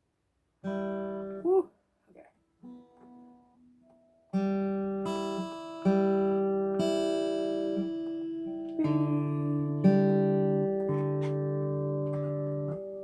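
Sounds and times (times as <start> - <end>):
fingerpicked acoustic guitar: 0.6 - 13.0.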